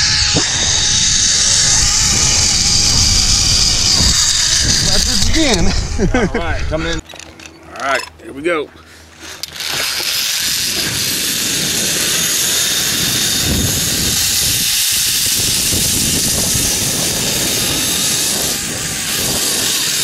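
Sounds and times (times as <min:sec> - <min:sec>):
zip-line trolley whirring on cable: 0:00.0 - 0:06.1, 0:09.2 - 0:20.0
wind rushing across microphone: 0:00.0 - 0:07.0, 0:10.4 - 0:20.0.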